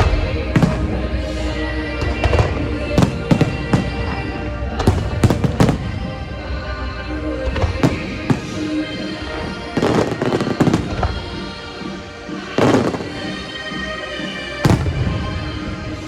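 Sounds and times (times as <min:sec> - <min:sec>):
fireworks bursting: 0:00.0 - 0:06.8, 0:07.5 - 0:13.8, 0:14.6 - 0:16.0
music playing: 0:00.0 - 0:16.0.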